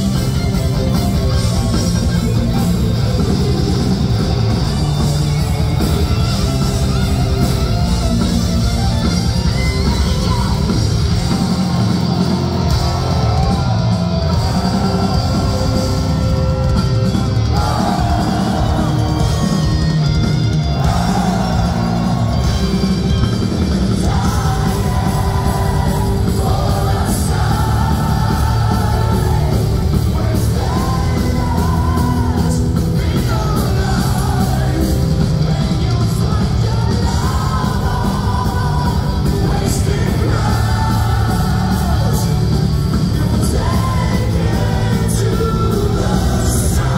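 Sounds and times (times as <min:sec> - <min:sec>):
live heavy metal band: 0:00.0 - 0:46.9.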